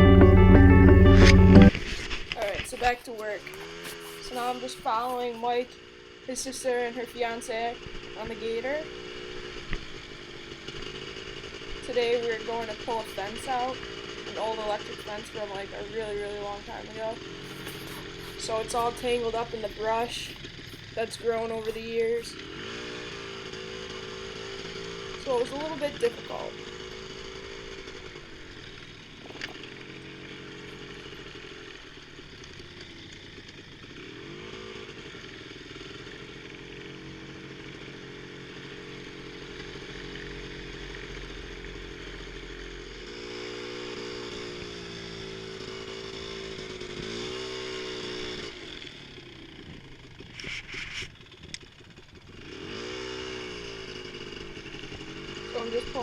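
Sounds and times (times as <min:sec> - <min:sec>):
atv engine running and revving: 0:00.0 - 0:56.0.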